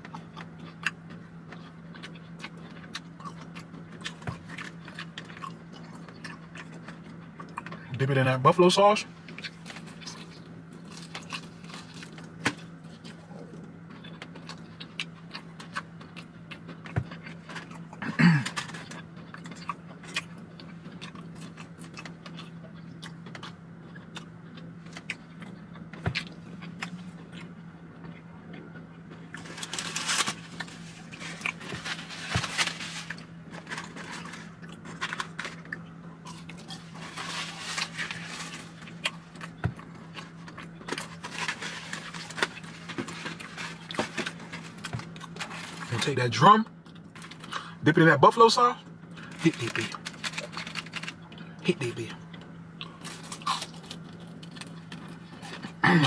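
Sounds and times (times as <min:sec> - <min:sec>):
person chewing food: 0:00.0 - 0:07.9, 0:09.2 - 0:45.9, 0:52.2 - 0:55.8
steady low hum: 0:00.0 - 0:56.0.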